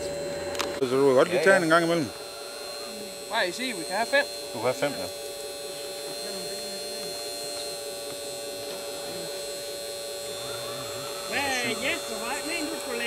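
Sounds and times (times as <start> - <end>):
small electric motors humming: 0.0 - 13.0.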